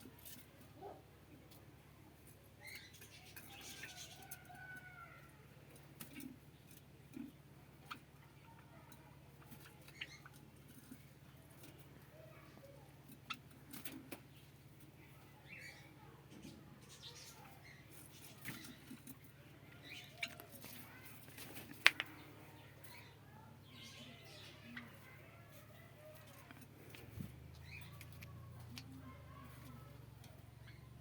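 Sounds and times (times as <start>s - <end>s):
birds chirping faintly: 0.0s - 31.0s
faint low hum: 0.0s - 31.0s.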